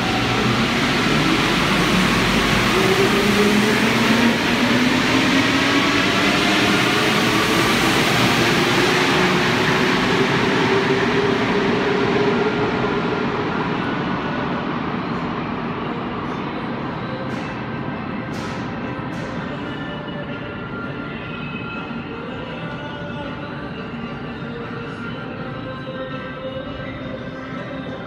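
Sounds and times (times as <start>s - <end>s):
train rolling noise: 0.0s - 28.0s.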